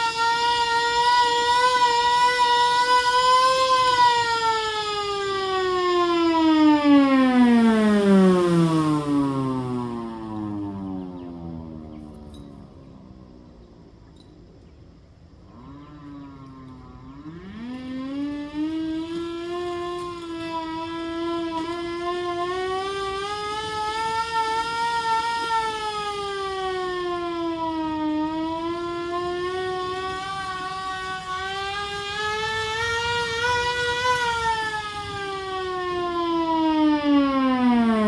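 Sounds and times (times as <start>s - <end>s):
hand-crank siren wailing: 0.0s - 38.0s.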